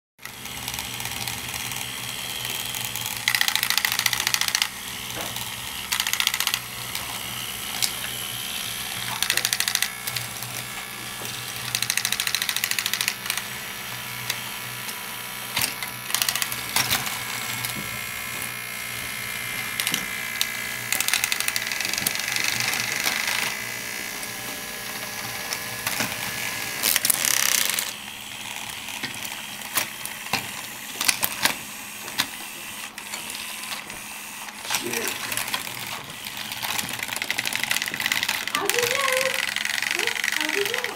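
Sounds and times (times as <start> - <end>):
toy tank motors whining: 0.2 - 40.9.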